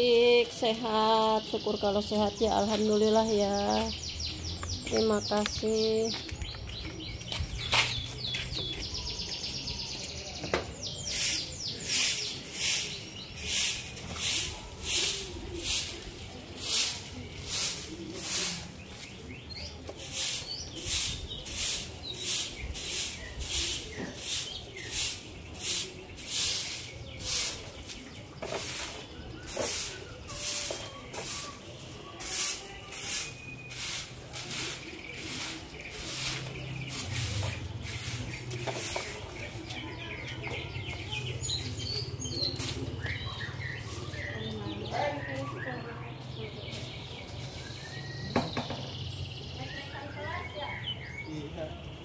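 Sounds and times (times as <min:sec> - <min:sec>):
broom sweeping on concrete: 0:02.0 - 0:48.3.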